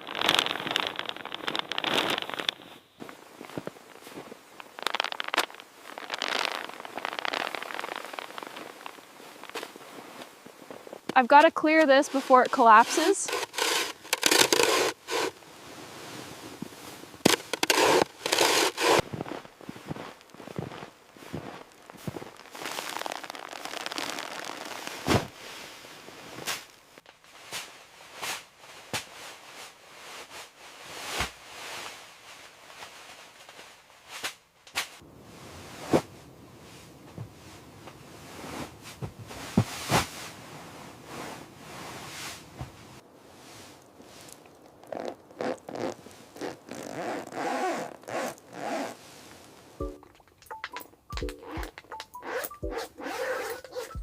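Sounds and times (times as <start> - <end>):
snow scraping and crunching: 0.0 - 34.2, 34.9 - 49.9.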